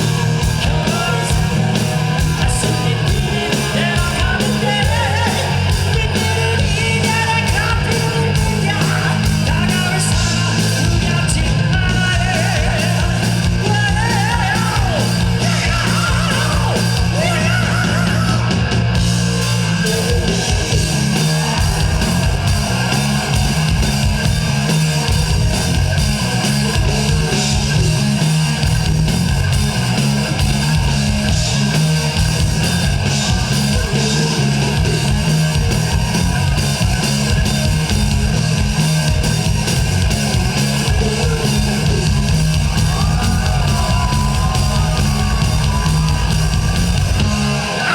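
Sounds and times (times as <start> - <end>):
live rock band playing: 0.0 - 47.9
rock vocals: 0.0 - 47.9.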